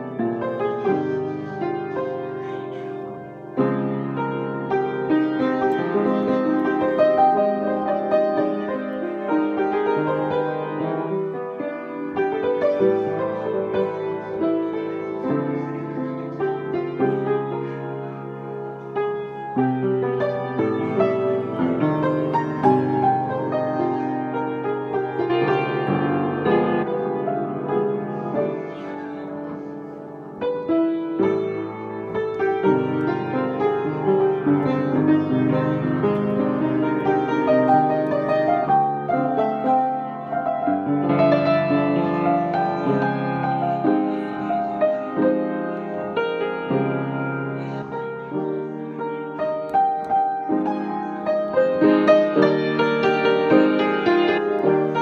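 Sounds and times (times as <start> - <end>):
solo piano playing: 0.0 - 55.0.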